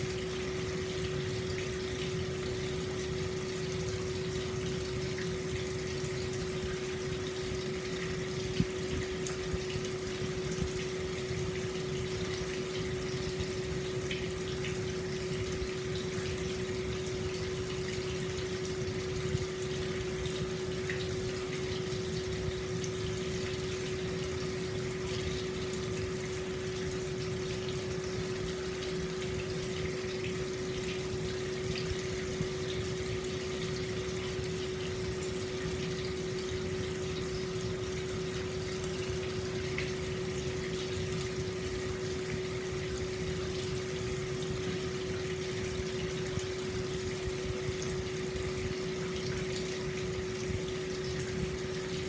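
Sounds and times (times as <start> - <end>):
water drips and splashes: 0.0 - 52.0.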